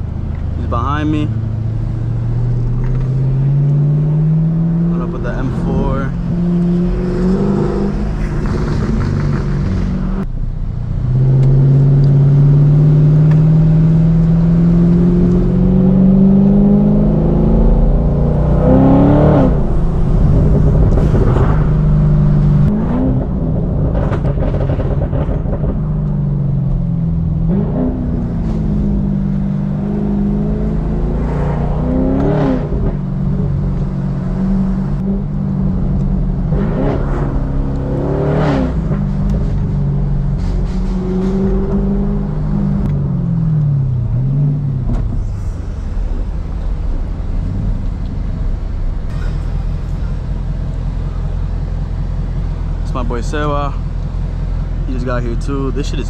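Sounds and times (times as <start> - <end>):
car engine accelerating and revving: 0.0 - 56.0.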